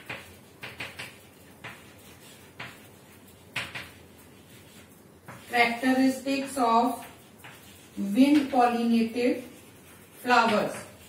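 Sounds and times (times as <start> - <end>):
chalk writing on chalkboard: 0.0 - 11.0.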